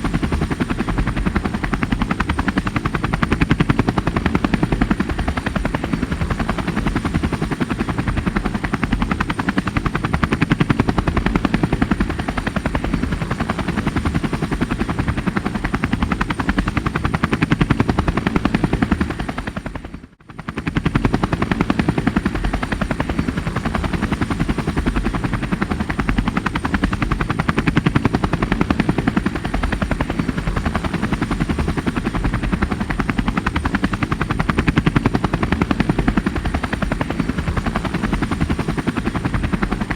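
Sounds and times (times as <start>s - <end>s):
helicopter engine noise: 0.0s - 39.9s
helicopter rotor beating: 0.0s - 39.9s.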